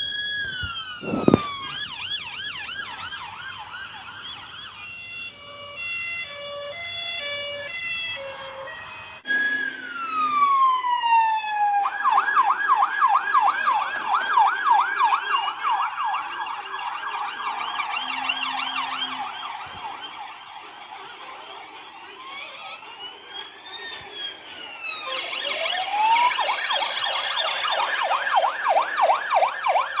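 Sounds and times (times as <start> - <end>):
police car siren: 0.0 - 30.0.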